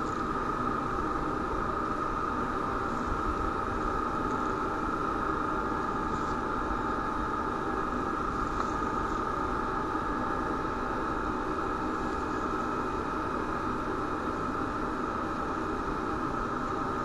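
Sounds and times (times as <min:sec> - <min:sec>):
background rumble and hiss: 0:00.0 - 0:17.0
faint constant hum: 0:00.0 - 0:17.0.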